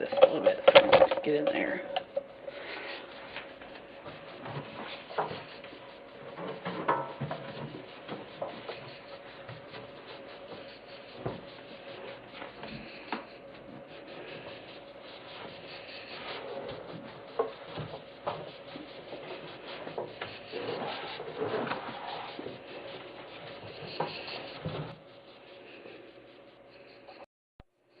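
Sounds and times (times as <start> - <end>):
faint steady hum: 0.0 - 28.0
cloth wiping inside microwave: 1.8 - 27.2.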